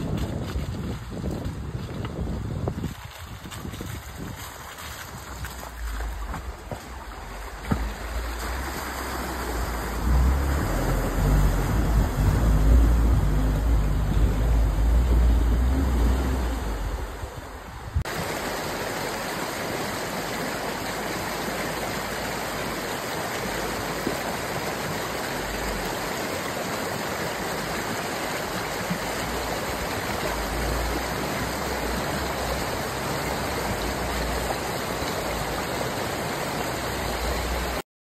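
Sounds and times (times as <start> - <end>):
river water rushing: 4.4 - 37.8.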